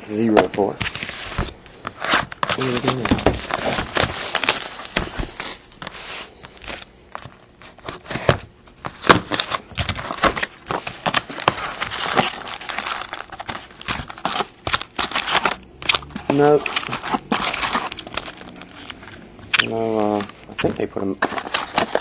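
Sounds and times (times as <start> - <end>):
plastic shrink-wrap crinkling and tearing: 0.9 - 6.9, 9.0 - 22.0.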